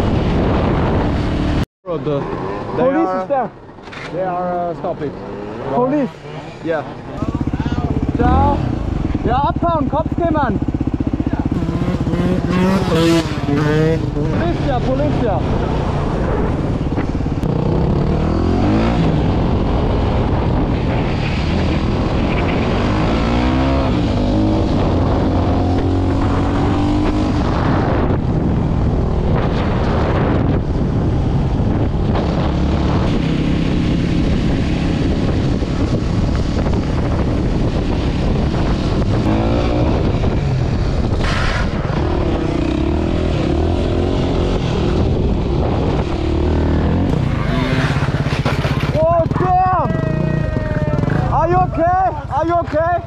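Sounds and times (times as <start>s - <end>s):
wind rush: 0.0s - 3.8s, 4.5s - 53.0s
motorcycle engine revving: 0.0s - 52.4s.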